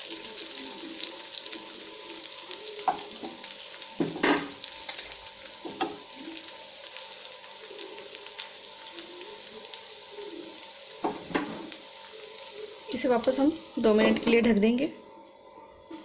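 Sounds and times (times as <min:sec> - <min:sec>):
food frying in oil: 0:00.0 - 0:16.0.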